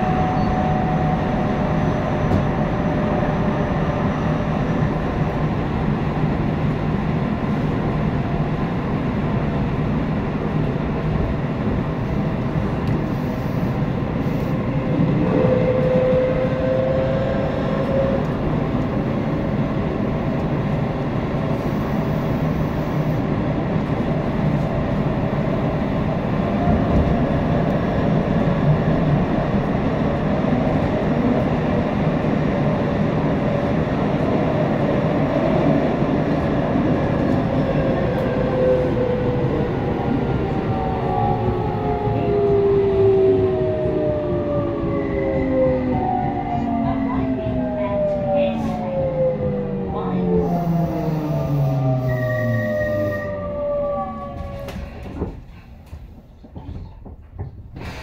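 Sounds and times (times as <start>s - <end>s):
train wheels on rails rumbling: 0.0s - 58.0s.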